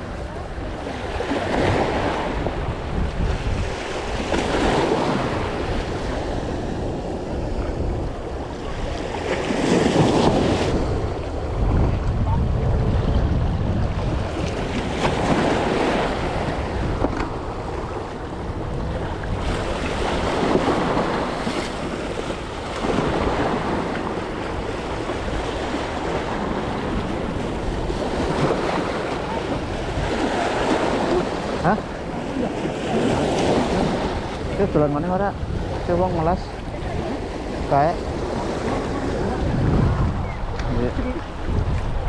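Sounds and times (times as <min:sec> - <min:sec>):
sea waves washing on shore: 0:00.0 - 0:42.0
wind buffeting microphone: 0:00.0 - 0:42.0.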